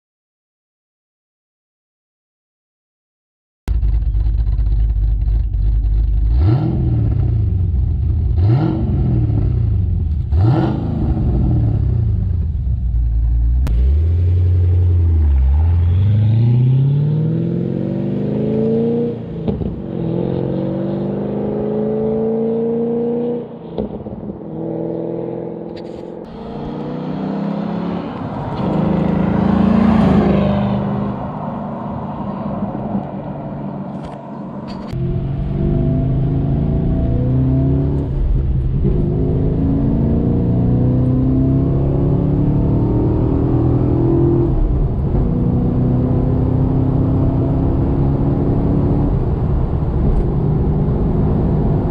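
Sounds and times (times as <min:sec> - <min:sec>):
car engine idling and revving: 0:03.7 - 0:51.9
car accelerating hard: 0:03.8 - 0:12.4, 0:13.6 - 0:51.9.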